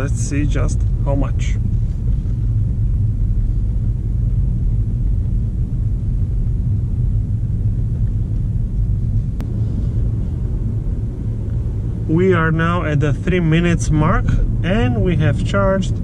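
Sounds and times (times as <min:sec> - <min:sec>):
car cabin engine rumble: 0:00.0 - 0:16.0.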